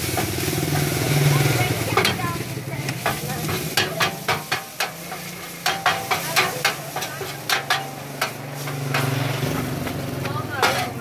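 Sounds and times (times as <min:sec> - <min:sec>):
frying sizzle: 0:00.0 - 0:11.0
metal spatula scraping frying pan: 0:00.0 - 0:11.0.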